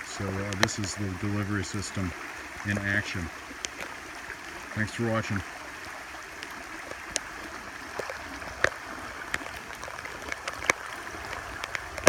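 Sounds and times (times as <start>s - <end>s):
rain falling on water: 0.0s - 12.0s
raindrops ticking close by: 0.0s - 12.0s
water running in: 0.0s - 12.0s.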